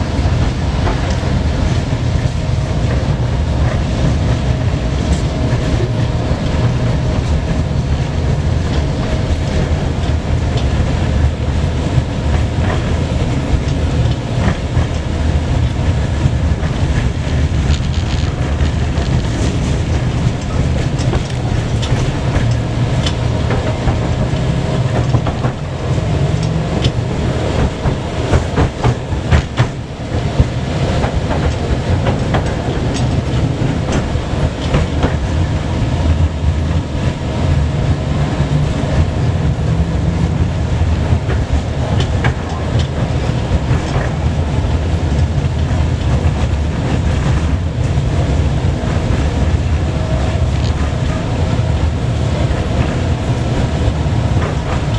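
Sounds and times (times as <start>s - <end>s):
tram rumbling: 0.0s - 54.9s
wheels clicking over rail joints: 0.0s - 54.9s.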